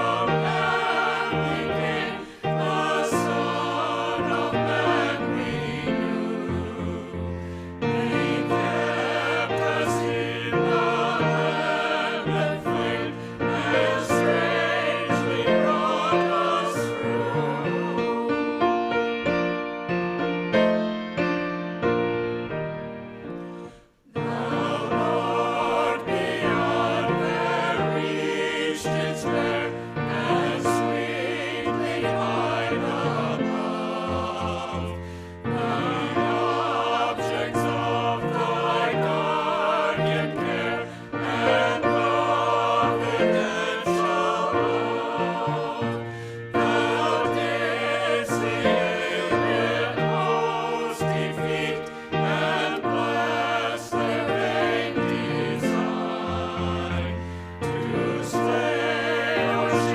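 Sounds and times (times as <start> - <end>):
voices singing a hymn: 0.0 - 19.5, 23.2 - 59.9.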